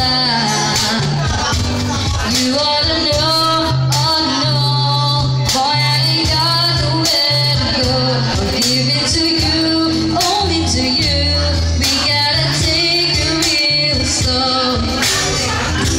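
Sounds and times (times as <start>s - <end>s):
live band playing: 0.0s - 15.9s
person singing: 0.0s - 15.9s.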